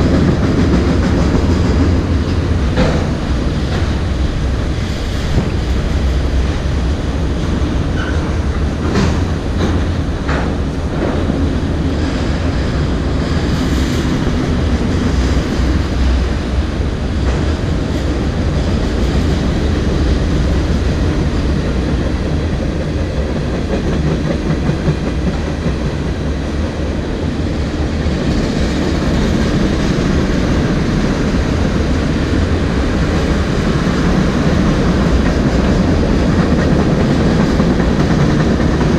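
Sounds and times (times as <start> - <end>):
train wheels clacking over rails: 0.0 - 38.9.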